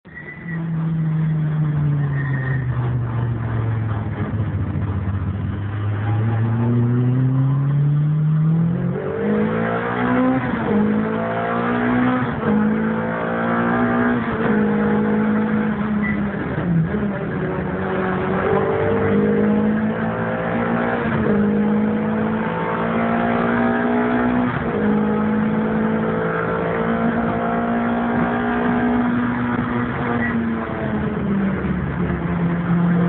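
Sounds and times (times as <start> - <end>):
car engine revving: 0.5 - 33.0.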